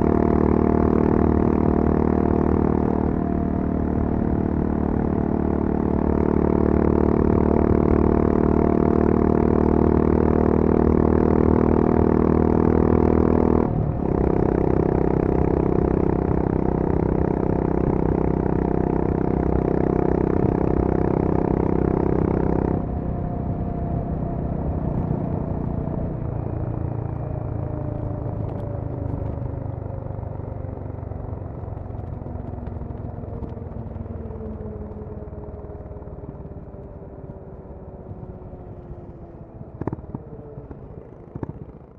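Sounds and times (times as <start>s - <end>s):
motorcycle engine at full throttle: 0.0s - 41.9s.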